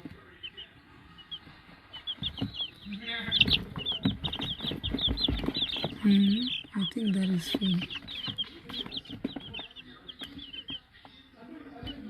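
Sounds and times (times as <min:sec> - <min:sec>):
chicks pecking taps and rustling: 0:00.0 - 0:12.0
chicks peeping: 0:00.0 - 0:12.0.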